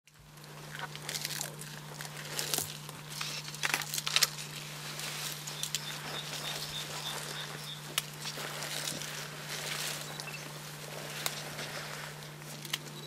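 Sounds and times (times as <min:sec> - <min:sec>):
steady low hum: 0:00.1 - 0:13.0
undergrowth rustling and crackling: 0:00.2 - 0:13.0.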